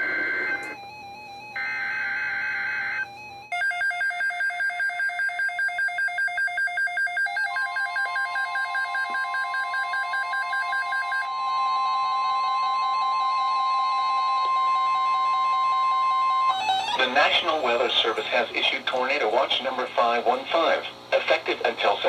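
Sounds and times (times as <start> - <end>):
pulsing radio alarm: 0.0 - 18.8
warbling alarm: 0.0 - 19.8
steady warning alarm tone: 0.0 - 21.2.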